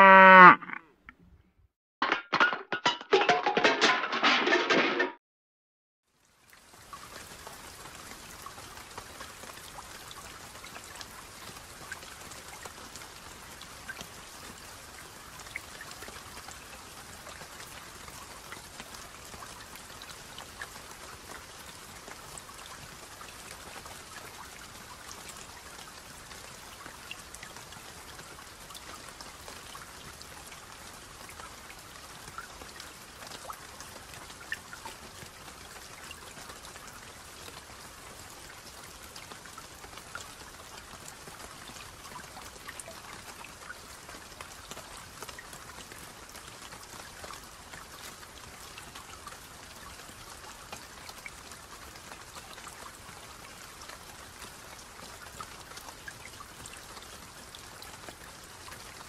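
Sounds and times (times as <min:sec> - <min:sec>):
light rain on grass: 0:00.0 - 0:00.8, 0:06.1 - 0:59.0.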